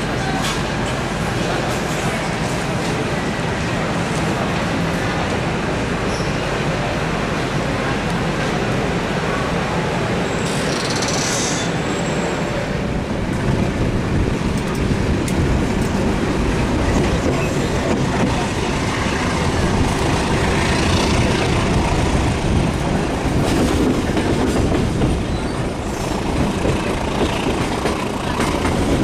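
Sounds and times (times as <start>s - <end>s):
train rumbling on tracks: 0.0s - 29.0s.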